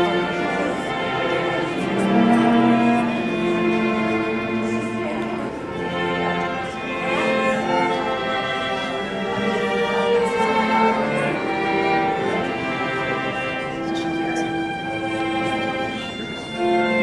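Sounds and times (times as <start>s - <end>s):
violin and cello playing: 0.0s - 17.0s.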